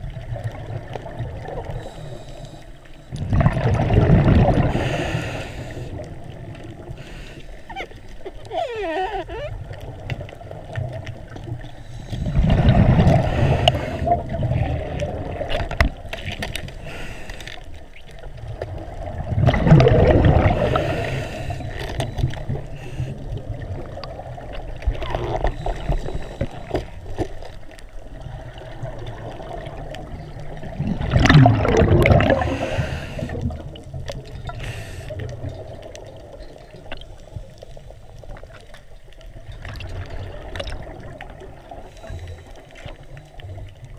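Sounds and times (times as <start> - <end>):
scuba regulator bubbles underwater: 0.0 - 43.9.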